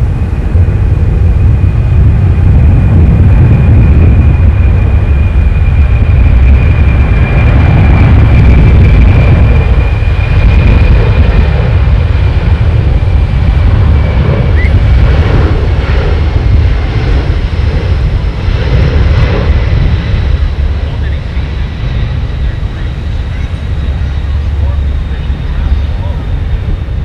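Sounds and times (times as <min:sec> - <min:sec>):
aircraft rumble: 0:00.0 - 0:27.0
high whine falling in pitch: 0:00.0 - 0:27.0.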